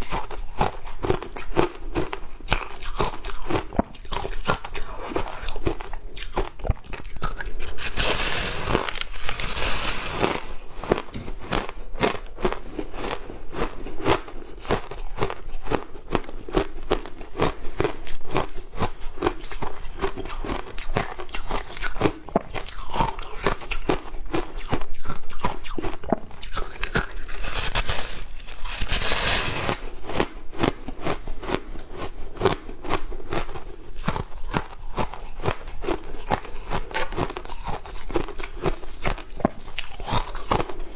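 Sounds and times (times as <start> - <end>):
person crunching frozen ice: 0.0 - 40.9.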